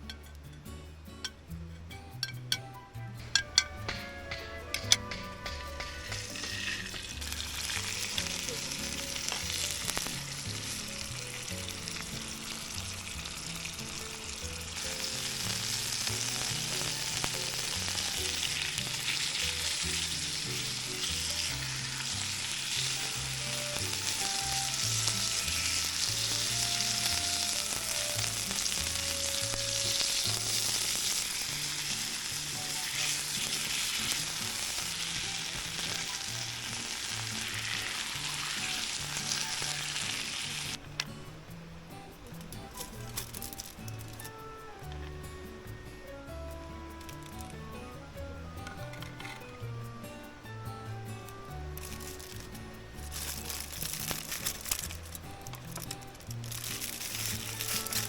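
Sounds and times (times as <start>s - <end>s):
sizzling and crackling: 0.0s - 58.0s
soft background music: 0.0s - 58.0s.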